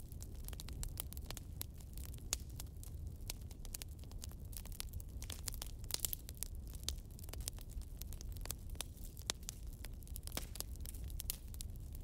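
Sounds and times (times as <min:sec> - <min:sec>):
log fire crackling: 0:00.0 - 0:12.0.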